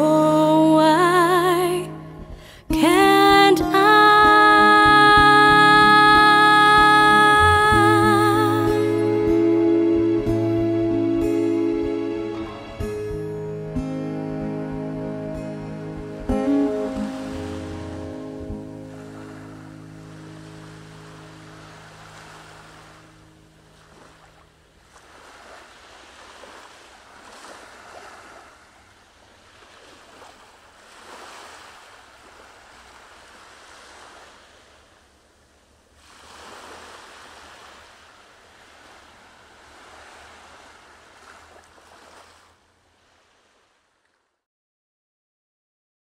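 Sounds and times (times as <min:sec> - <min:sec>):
sea waves washing on shore: 0:00.0 - 0:10.0, 0:15.2 - 0:44.3.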